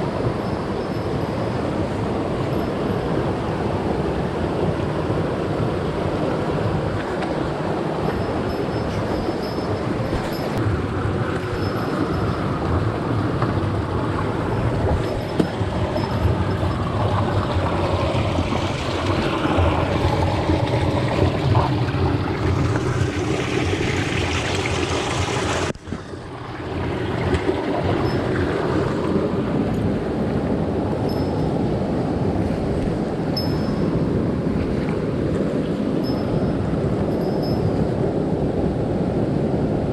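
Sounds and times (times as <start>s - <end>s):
stream water rushing over rocks: 1.6s - 39.9s.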